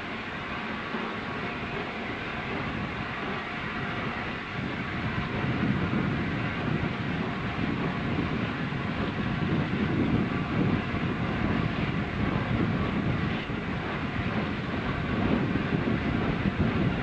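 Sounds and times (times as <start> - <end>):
steam train rumbling on rails: 0.0 - 17.0.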